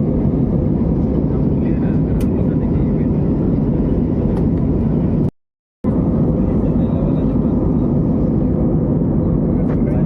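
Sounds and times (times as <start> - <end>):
jet engine cabin rush: 0.0 - 5.3, 5.9 - 10.0.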